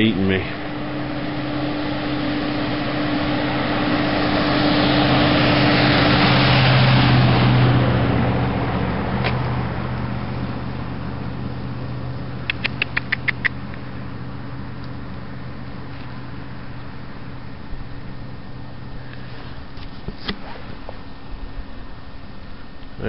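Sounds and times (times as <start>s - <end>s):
motor vehicle humming: 0.0s - 23.0s.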